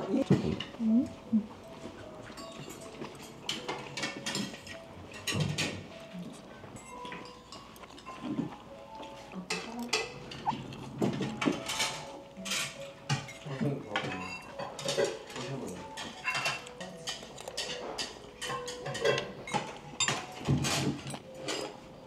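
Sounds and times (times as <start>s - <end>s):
cutlery clinking on plates: 1.7s - 22.0s.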